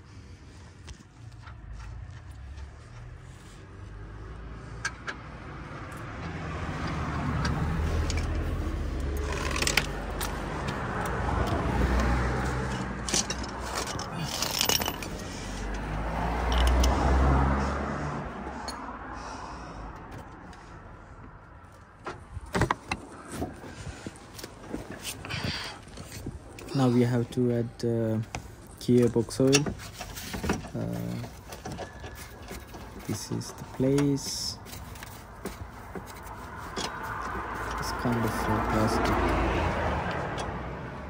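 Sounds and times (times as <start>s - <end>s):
vehicles passing by: 0.0s - 41.0s.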